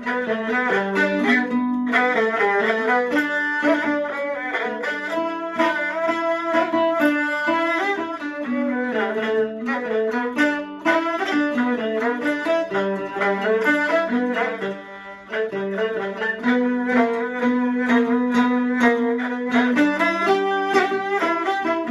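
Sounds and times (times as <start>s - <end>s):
bowed string instruments playing: 0.0s - 21.9s.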